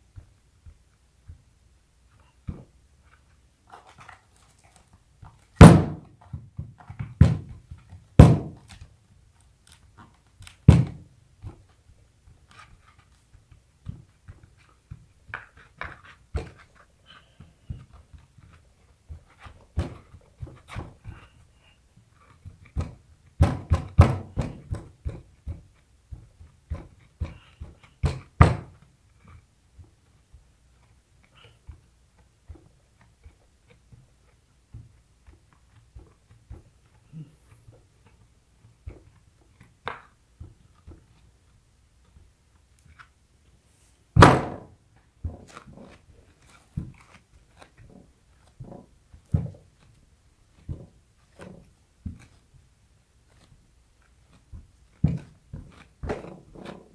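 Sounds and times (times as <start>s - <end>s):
palms rubbing grip tape: 2.1s - 56.9s.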